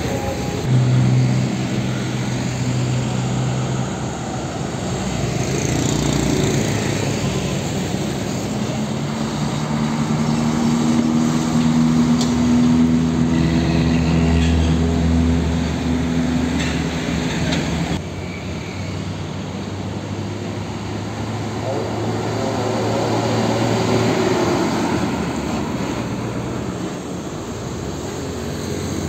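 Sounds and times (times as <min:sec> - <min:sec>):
road traffic: 0:00.0 - 0:29.0
truck diesel engines driving past: 0:00.0 - 0:29.0.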